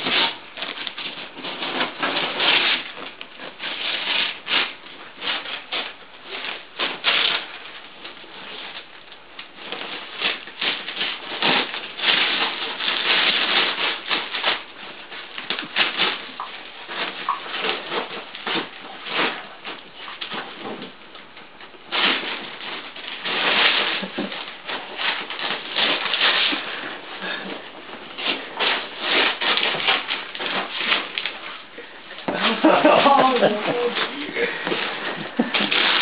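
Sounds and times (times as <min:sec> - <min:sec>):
wrapping paper rustling and tearing: 0:00.0 - 0:36.0.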